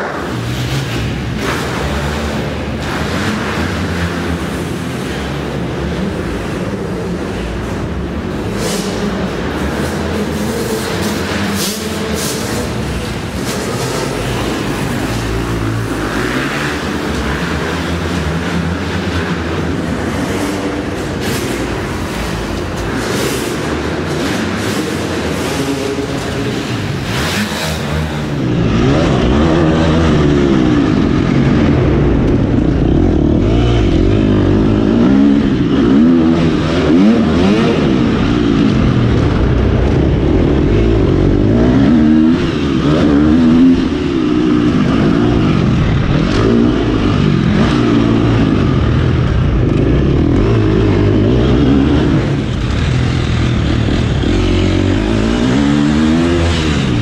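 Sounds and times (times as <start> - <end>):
dirt bike engine revving: 7.7 - 57.0.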